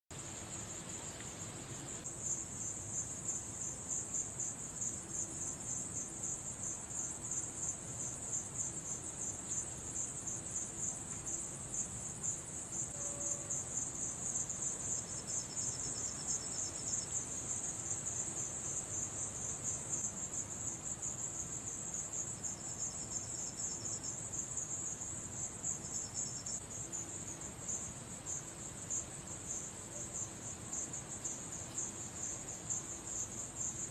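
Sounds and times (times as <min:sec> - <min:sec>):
crickets chirping: 0:00.1 - 0:33.9
lower insect trill: 0:00.1 - 0:33.9.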